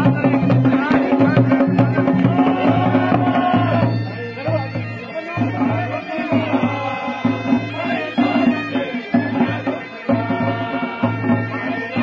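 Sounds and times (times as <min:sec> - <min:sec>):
barrel drum beating rhythm: 0:00.0 - 0:12.0.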